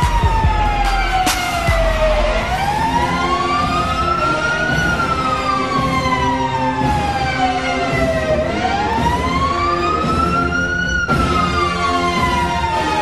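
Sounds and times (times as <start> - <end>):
goal siren wailing: 0.0 - 13.0
music: 0.0 - 13.0.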